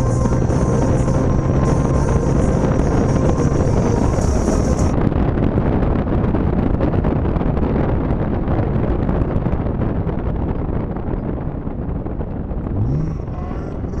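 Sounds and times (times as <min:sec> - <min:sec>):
road and engine noise: 0:00.0 - 0:14.0
wind rushing through car window: 0:00.0 - 0:14.0.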